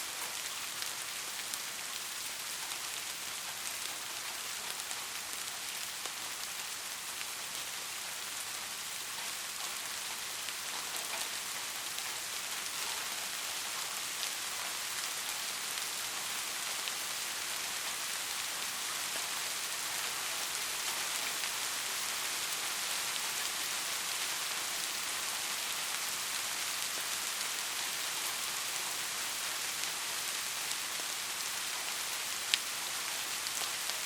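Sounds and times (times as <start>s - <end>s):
rain falling on a roof: 0.0s - 34.0s.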